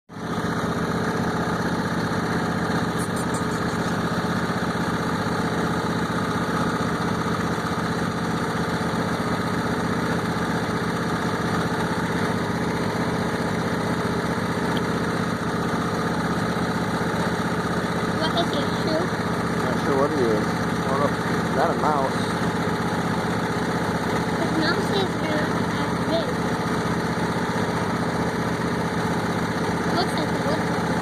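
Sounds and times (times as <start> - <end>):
lawnmower engine running: 0.1 - 31.0.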